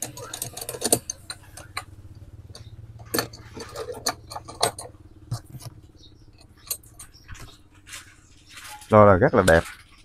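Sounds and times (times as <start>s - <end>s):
metal scraping and knocking on plastic: 0.0s - 1.9s, 2.5s - 10.0s.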